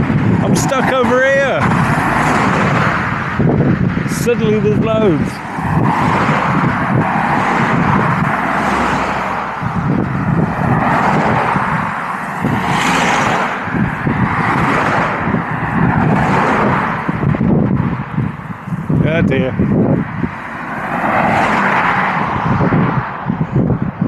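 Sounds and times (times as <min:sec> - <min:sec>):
road traffic passing: 0:00.0 - 0:24.0.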